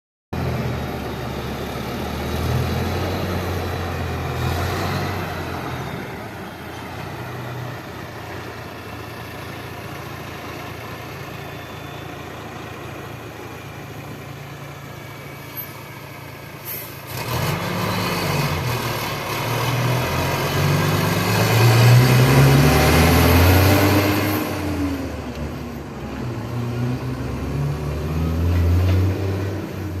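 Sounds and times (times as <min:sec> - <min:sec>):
diesel truck engine revving: 0:00.4 - 0:30.0.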